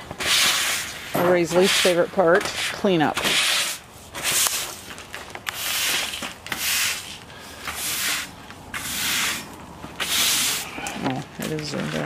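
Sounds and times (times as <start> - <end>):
push broom sweeping concrete: 0.0 - 11.0.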